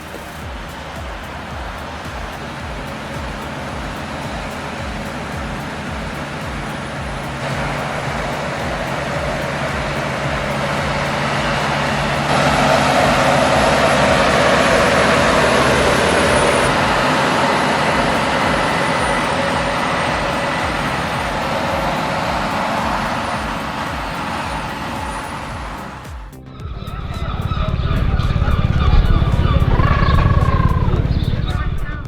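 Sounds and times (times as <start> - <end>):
road noise: 0.0 - 32.0
truck engine under load: 0.0 - 32.0.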